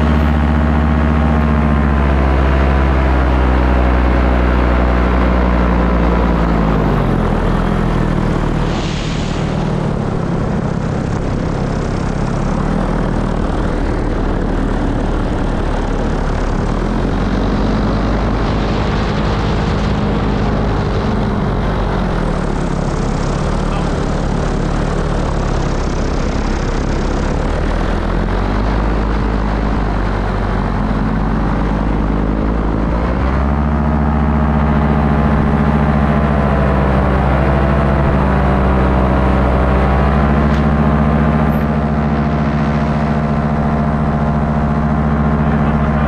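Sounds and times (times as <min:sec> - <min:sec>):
paramotor engine and propeller: 0:00.0 - 0:46.0
rushing wind: 0:00.0 - 0:46.0.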